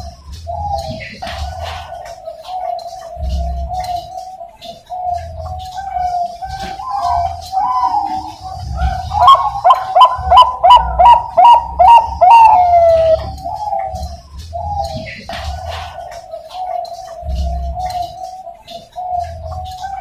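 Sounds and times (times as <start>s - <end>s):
dove cooing: 0.0s - 20.0s
other doves cooing: 0.0s - 20.0s.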